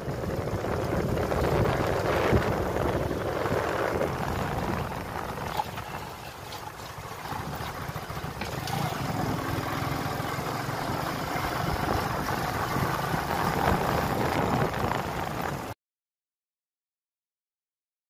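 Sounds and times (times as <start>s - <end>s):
vehicle engine running: 0.0s - 15.7s
rumble from dirt road: 0.0s - 15.8s.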